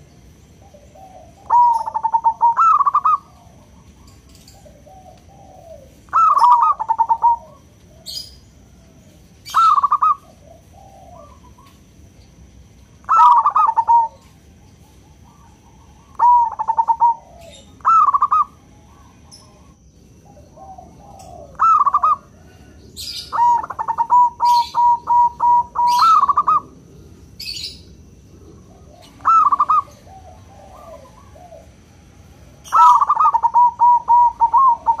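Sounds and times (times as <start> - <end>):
dove cooing: 0.0 - 12.1, 13.0 - 35.0.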